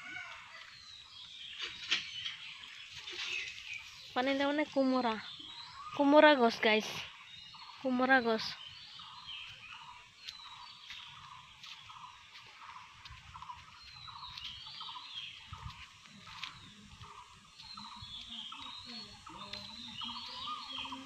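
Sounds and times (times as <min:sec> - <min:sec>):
birds chirping: 0:00.0 - 0:21.0
birds warbling: 0:00.0 - 0:21.0.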